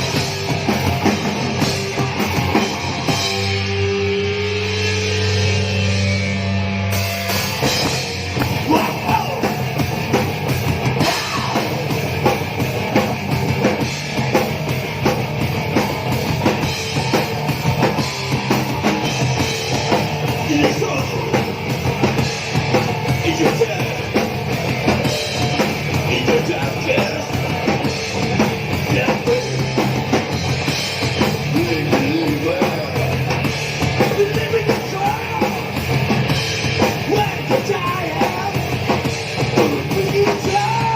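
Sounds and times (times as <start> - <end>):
distorted guitar and bass: 0.0 - 40.9
fast dense drumming: 0.0 - 40.9.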